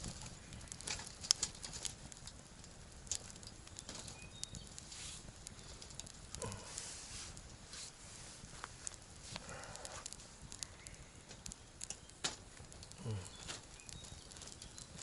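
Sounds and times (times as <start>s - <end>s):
fire low hiss: 0.0s - 15.0s
wood fire crackling: 0.0s - 15.0s.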